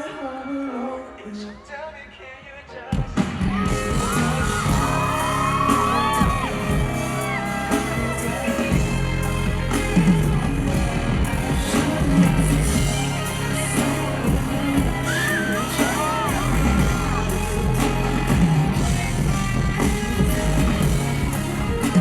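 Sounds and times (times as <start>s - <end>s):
live pop band: 0.0s - 22.0s
person singing: 0.0s - 22.0s.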